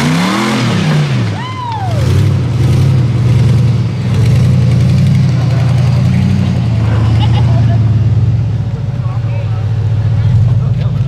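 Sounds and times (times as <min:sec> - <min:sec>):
engine revving: 0:00.0 - 0:11.0.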